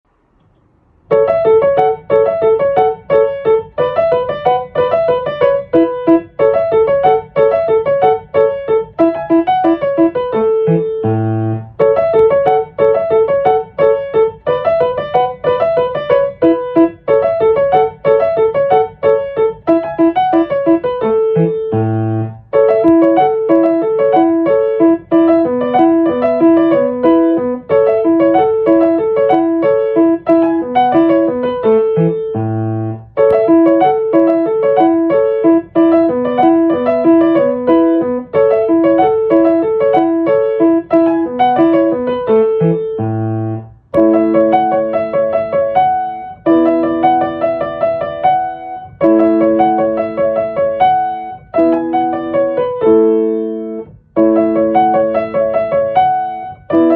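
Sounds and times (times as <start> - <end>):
solo piano music: 0.1 - 56.9.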